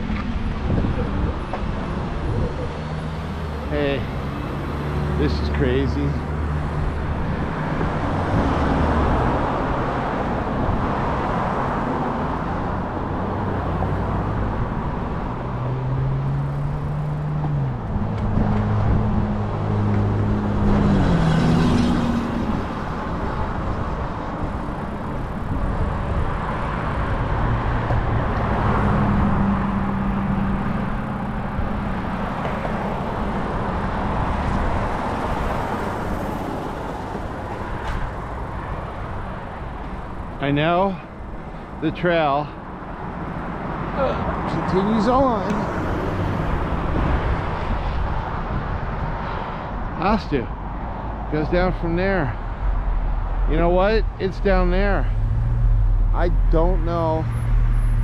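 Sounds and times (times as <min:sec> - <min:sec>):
wind rushing over microphone: 0:00.0 - 0:04.8, 0:06.5 - 0:40.2, 0:45.6 - 0:58.0.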